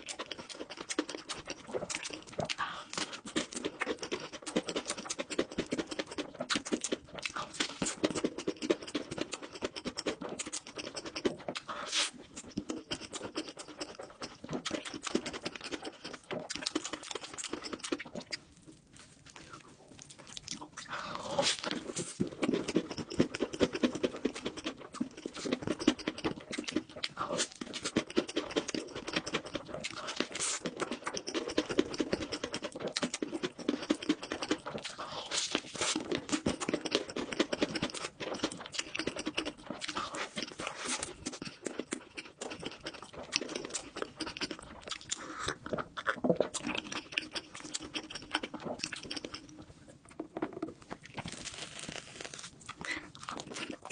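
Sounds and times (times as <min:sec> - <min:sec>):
wet mouth clicks and smacks: 0:00.0 - 0:18.4, 0:20.4 - 0:51.3
person chewing food: 0:00.0 - 0:53.9.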